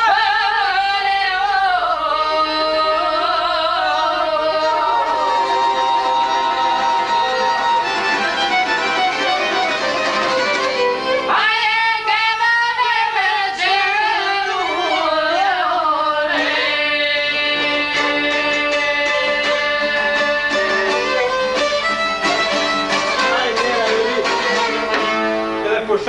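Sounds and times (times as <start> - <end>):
long-necked lute: 0.0 - 25.7
accordion: 2.0 - 11.8, 13.2 - 26.0
violin melody: 2.2 - 11.9, 12.7 - 26.0.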